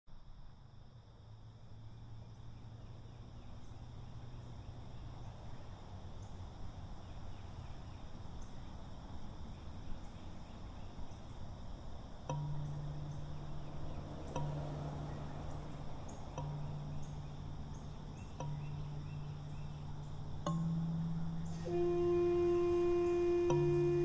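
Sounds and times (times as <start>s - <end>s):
insects and tree frogs calling: 0.1s - 24.0s
steady low hum: 0.2s - 24.0s.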